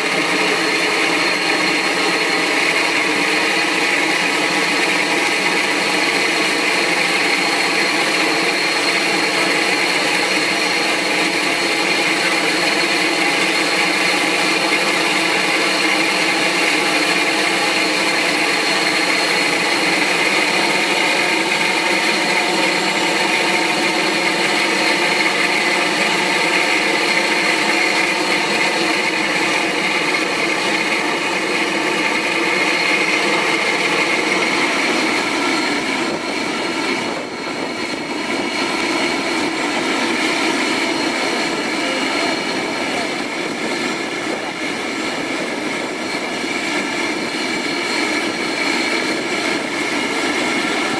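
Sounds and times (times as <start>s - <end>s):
jet engines running: 0.0s - 50.9s.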